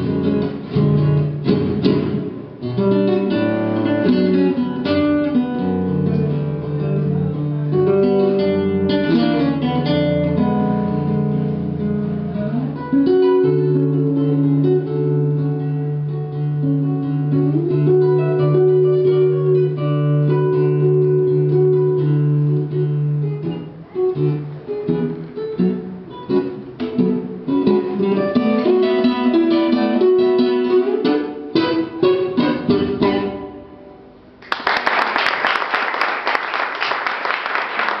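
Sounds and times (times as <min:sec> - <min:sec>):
acoustic guitar music: 0:00.0 - 0:34.5.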